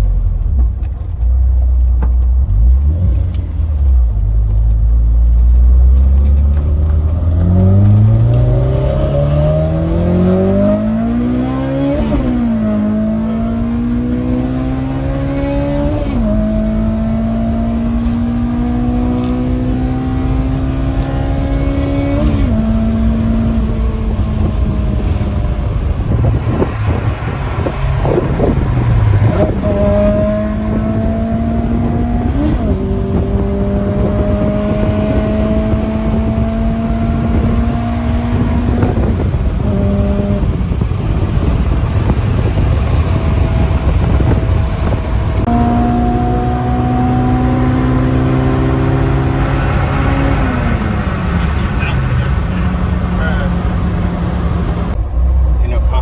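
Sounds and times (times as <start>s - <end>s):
car engine accelerating through gears: 0.0s - 56.0s.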